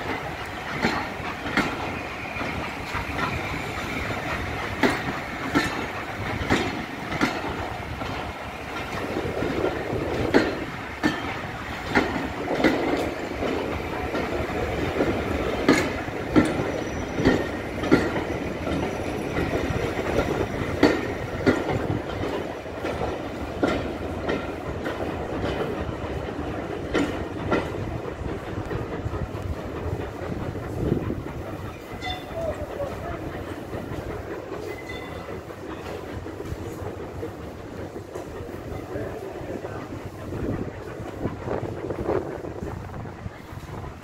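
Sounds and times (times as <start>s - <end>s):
train coaches rumbling past: 0.0s - 44.0s
wheels clacking over rail joints: 0.0s - 44.0s.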